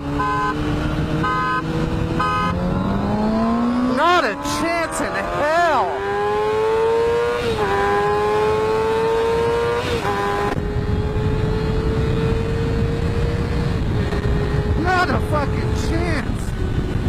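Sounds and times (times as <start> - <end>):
motorcycle engine accelerating: 0.0 - 17.0
road rumble: 0.0 - 17.0
wind noise: 0.0 - 17.0.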